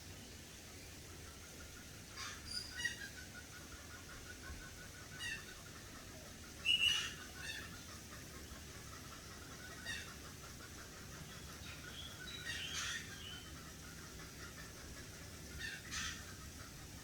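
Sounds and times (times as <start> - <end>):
chickens clucking: 1.2 - 17.0.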